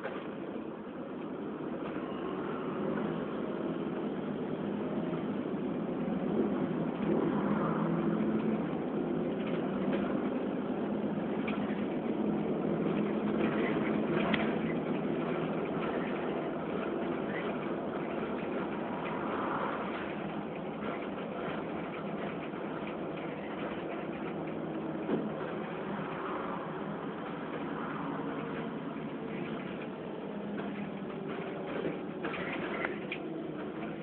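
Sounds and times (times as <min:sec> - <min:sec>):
bus cabin noise: 0:00.0 - 0:34.0
bus diesel engine running: 0:00.0 - 0:34.0.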